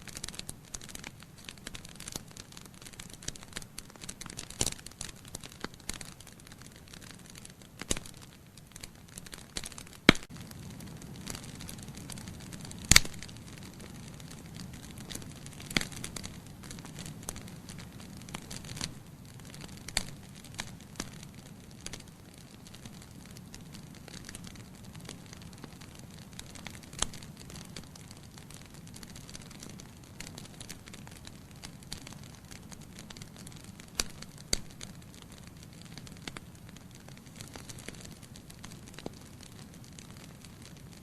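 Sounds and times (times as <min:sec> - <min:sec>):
logs crackling in fireplace: 0:00.0 - 0:41.0.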